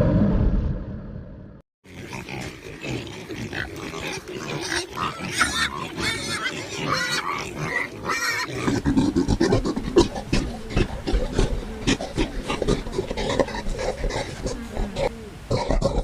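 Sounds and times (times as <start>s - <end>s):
pigs grunting and squealing: 1.9s - 16.0s.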